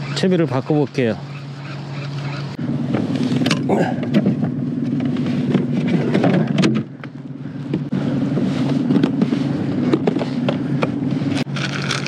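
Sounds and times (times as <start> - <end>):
engine-like hum: 0.0 - 12.0.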